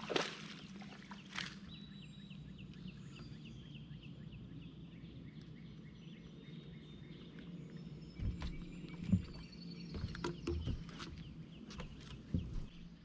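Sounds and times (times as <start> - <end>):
steady low hum: 0.8 - 13.0.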